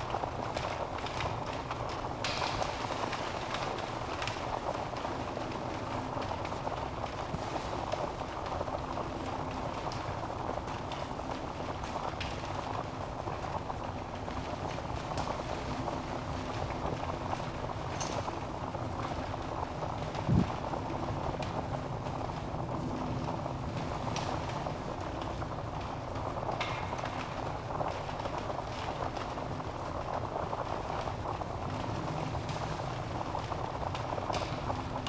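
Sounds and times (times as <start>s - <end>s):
flames rushing in fireplace: 0.0s - 35.0s
logs crackling and popping: 0.0s - 35.0s.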